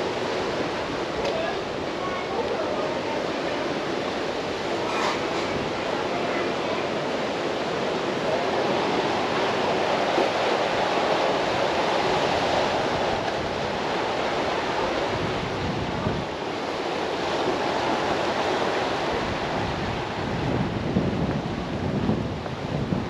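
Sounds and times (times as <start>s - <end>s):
surf washing against rocks: 0.0s - 23.0s
wind on microphone: 3.5s - 23.0s.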